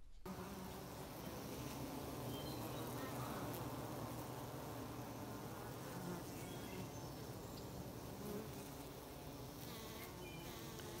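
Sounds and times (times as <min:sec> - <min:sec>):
bees buzzing: 0:00.3 - 0:11.0.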